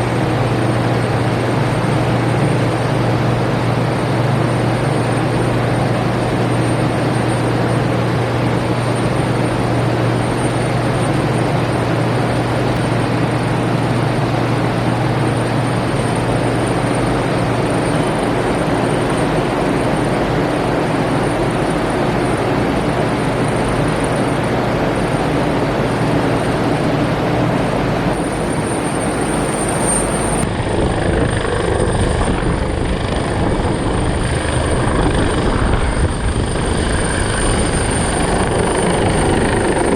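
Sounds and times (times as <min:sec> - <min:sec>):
helicopter rotor noise: 0:00.0 - 0:39.9
high turbine whine: 0:00.0 - 0:39.9.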